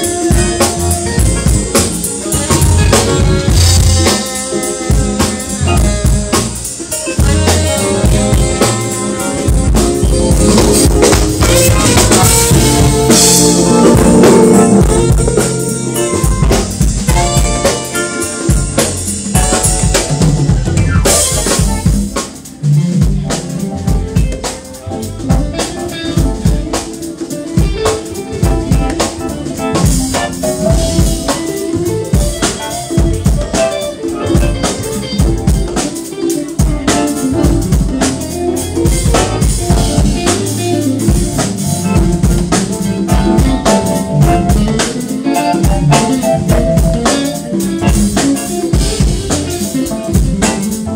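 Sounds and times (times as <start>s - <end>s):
congas: 0.0s - 50.9s
drum kit: 0.0s - 50.9s
jazz band playing: 0.0s - 50.9s
keyboards: 0.0s - 50.9s.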